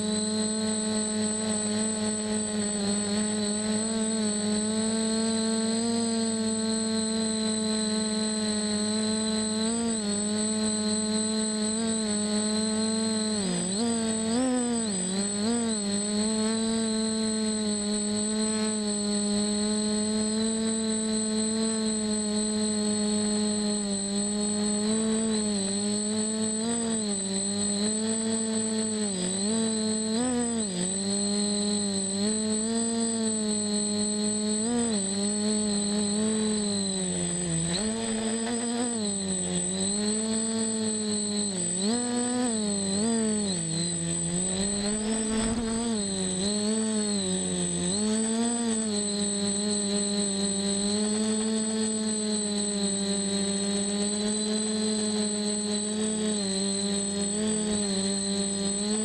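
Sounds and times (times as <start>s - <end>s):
drone motors and propellers whining: 0.0s - 59.0s.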